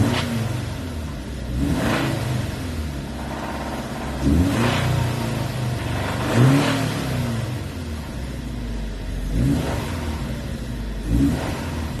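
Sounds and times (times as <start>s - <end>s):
car engine idling: 0.0s - 12.0s
engine throttle blips: 0.0s - 12.0s.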